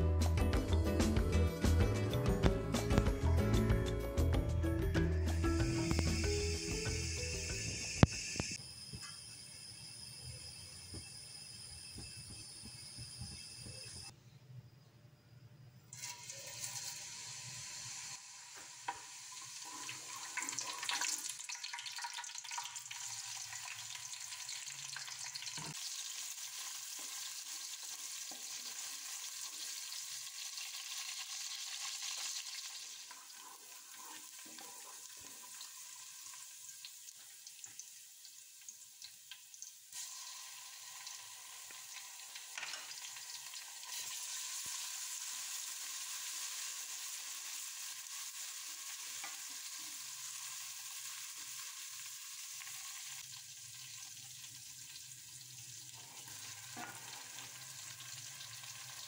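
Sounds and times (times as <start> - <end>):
hot oil sizzling in a pot: 5.2 - 14.1, 15.9 - 59.0.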